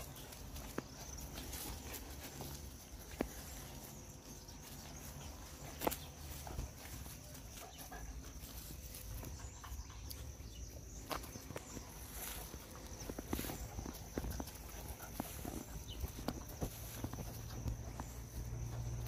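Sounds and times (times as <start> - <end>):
puppy paws scuffling on grass: 0.0 - 19.0.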